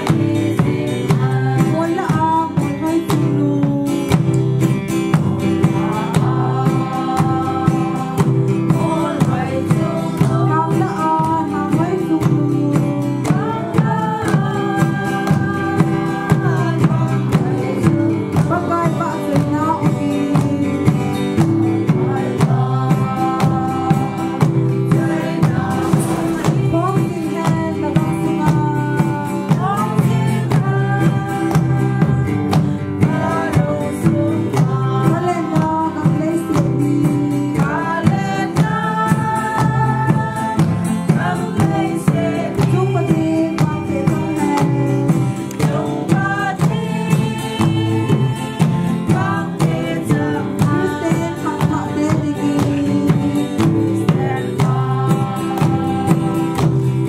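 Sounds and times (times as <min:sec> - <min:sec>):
group singing a hymn: 0:00.0 - 0:02.7, 0:05.1 - 0:57.0
acoustic guitar strumming: 0:00.0 - 0:57.0
drum beat: 0:00.0 - 0:57.0.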